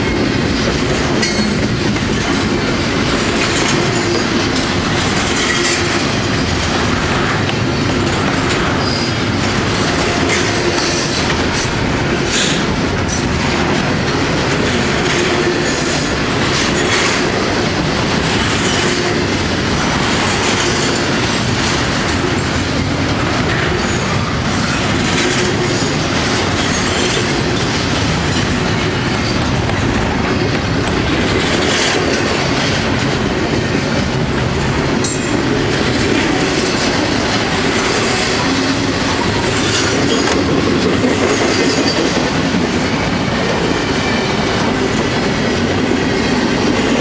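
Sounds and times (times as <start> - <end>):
train wheels clattering over rails: 0.0 - 47.0.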